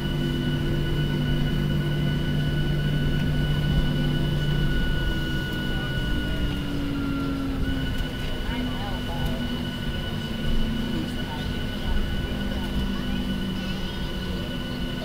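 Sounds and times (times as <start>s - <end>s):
aircraft engines rumbling: 0.0s - 15.0s
low hum: 0.0s - 15.0s
thin steady whine: 0.0s - 15.0s.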